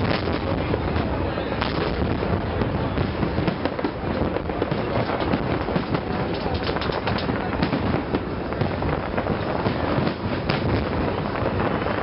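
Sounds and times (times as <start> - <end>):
fireworks booms: 0.0 - 12.0
fireworks crackling: 0.0 - 12.0.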